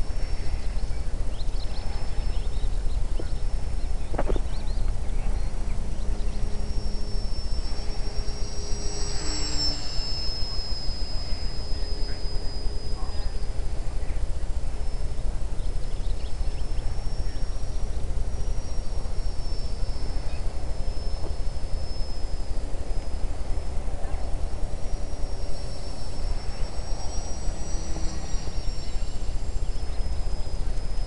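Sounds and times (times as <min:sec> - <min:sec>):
model plane engine whine: 0:00.0 - 0:31.0
wind rumble on microphone: 0:00.0 - 0:31.0.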